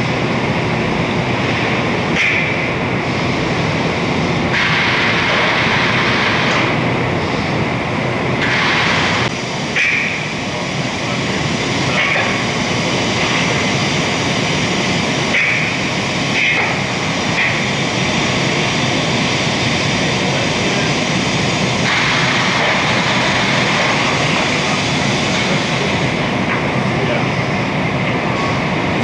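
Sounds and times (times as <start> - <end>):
industrial machinery running: 0.0 - 29.0.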